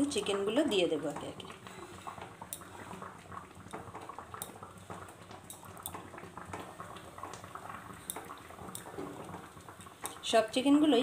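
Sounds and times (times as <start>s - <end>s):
chicken frying in hot oil: 0.0s - 11.0s
oil crackling and popping: 0.0s - 11.0s.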